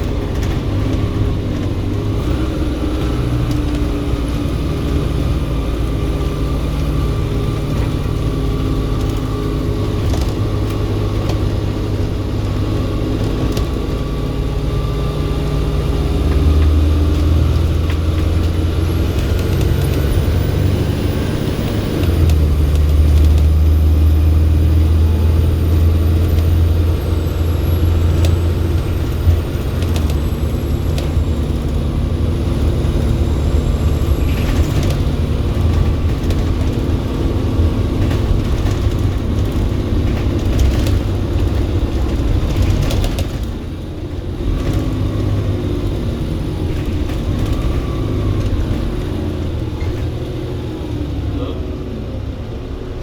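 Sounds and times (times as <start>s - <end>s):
bus diesel engine working hard: 0.0s - 53.0s.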